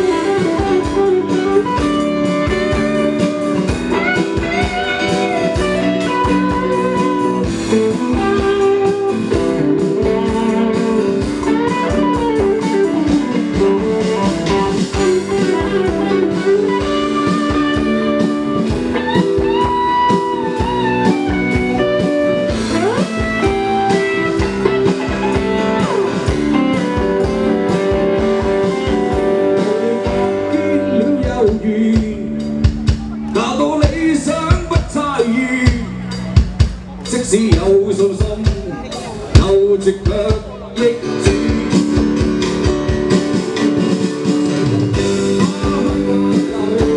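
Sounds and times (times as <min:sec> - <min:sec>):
drum kit beat: 0:00.0 - 0:46.9
electric guitar lines with bent notes: 0:00.0 - 0:46.9
strummed guitar: 0:00.0 - 0:46.9.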